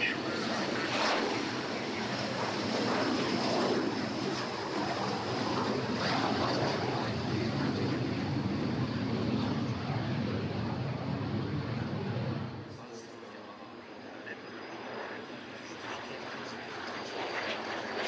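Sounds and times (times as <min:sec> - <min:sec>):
jet engine roaring with whine: 0:00.0 - 0:18.0.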